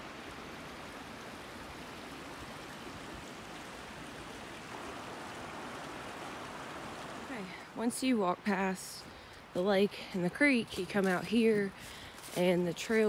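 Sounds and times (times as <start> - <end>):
creek water running over riffles: 0.0 - 13.0.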